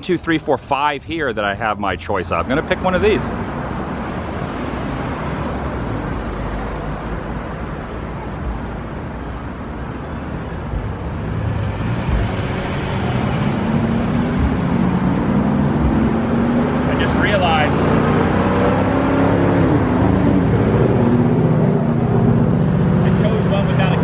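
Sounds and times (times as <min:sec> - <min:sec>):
road traffic: 0:00.0 - 0:24.0
vehicle engine hum: 0:00.0 - 0:24.0.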